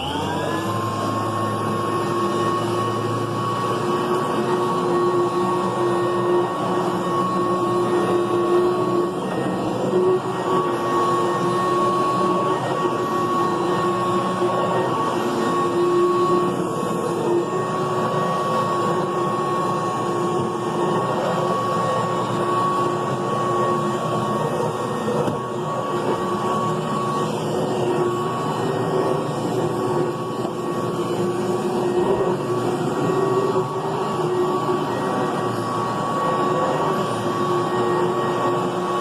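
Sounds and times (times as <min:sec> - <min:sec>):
vacuum cleaner running over carpet: 0:00.0 - 0:39.0.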